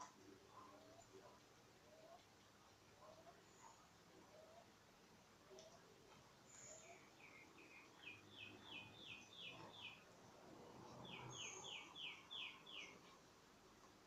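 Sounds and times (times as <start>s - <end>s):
faint bird song: 0.0s - 14.0s.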